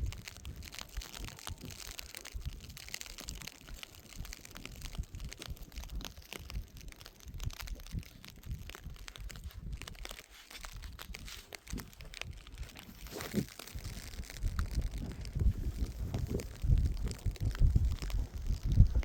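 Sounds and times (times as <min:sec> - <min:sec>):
crackling and crinkling: 0:00.0 - 0:19.0
low rumbling wind-like noise: 0:00.0 - 0:19.0.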